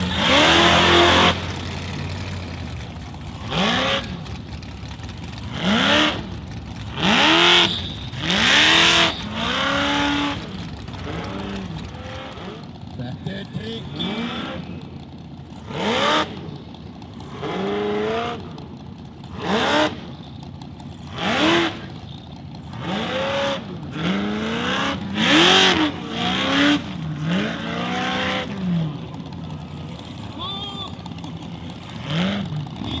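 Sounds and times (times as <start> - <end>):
car engine revving hard: 0.0 - 33.0.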